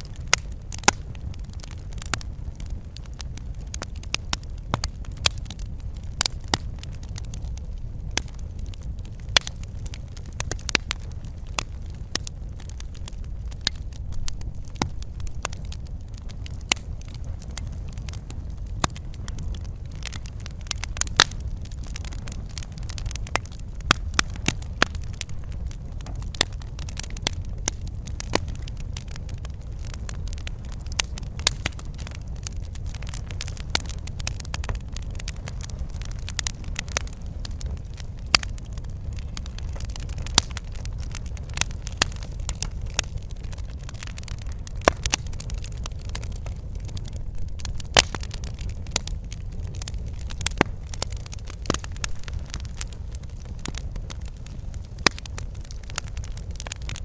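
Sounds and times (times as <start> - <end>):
low rumble of burning: 0.0 - 57.0
wood fire crackling and popping: 0.0 - 57.0.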